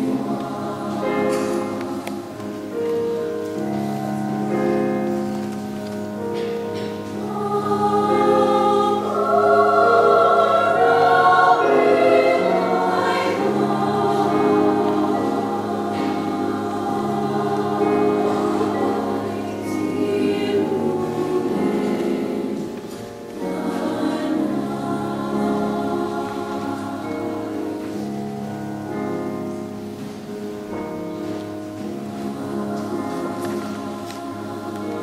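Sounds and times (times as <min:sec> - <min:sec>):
girls' choir singing: 0:00.0 - 0:35.0.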